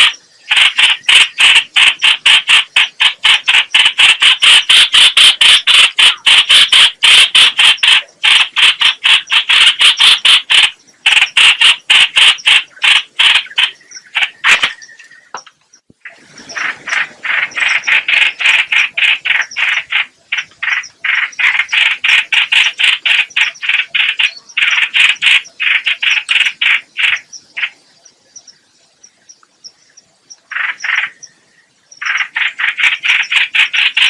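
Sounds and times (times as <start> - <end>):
bird harsh chattering notes: 0.0 - 15.5, 16.1 - 27.8, 30.5 - 31.4, 32.0 - 34.0.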